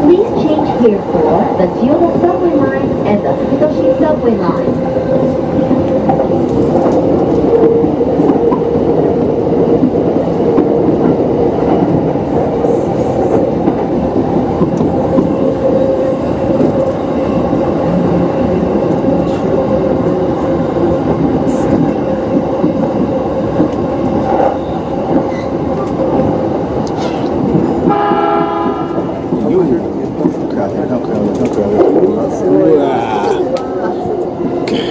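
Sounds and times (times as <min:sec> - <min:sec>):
constant train hum: 0:00.0 - 0:34.9
wheels rumbling on rail: 0:00.0 - 0:34.9.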